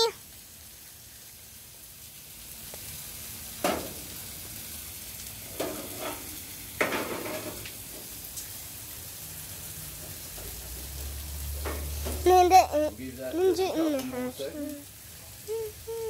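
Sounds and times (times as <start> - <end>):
meat sizzling on grill: 0.0 - 16.0.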